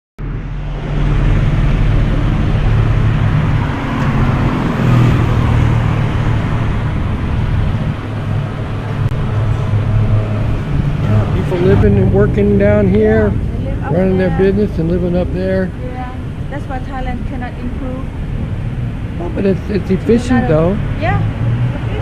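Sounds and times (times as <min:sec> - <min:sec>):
road noise: 0:00.2 - 0:22.0
vehicle engines humming: 0:00.2 - 0:22.0.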